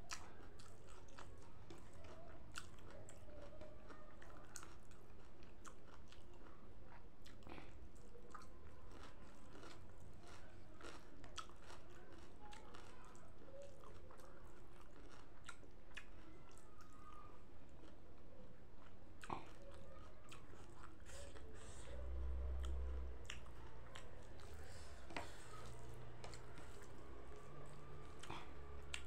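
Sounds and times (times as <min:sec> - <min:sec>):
person chewing and crunching food: 0:00.0 - 0:29.0.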